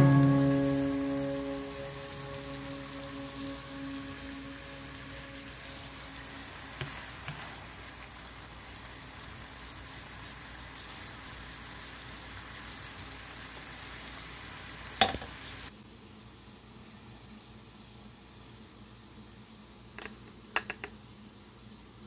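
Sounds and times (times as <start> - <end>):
green beans sizzling in a pan: 0.0 - 22.0.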